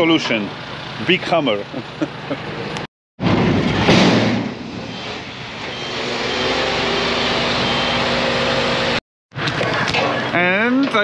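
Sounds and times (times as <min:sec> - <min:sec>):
diesel engine running: 0:00.0 - 0:02.9, 0:04.5 - 0:10.7.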